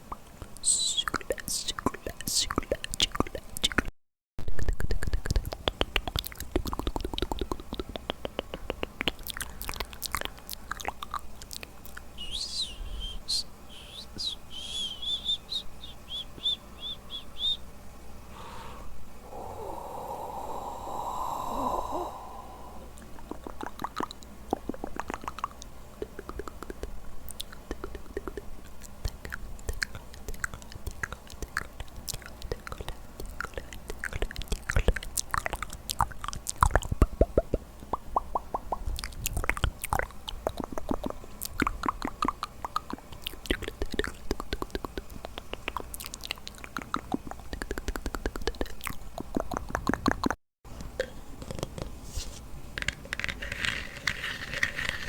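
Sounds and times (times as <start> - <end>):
wet mouth clicks: 0.0 - 3.9, 4.6 - 17.5, 23.0 - 51.9
rough mouth sound: 4.6 - 17.6, 18.4 - 50.4.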